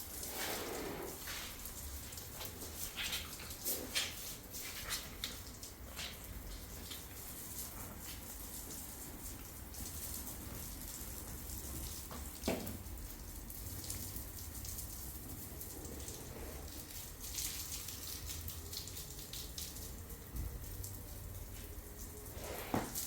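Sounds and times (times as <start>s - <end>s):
water running or splashing: 0.0s - 23.0s.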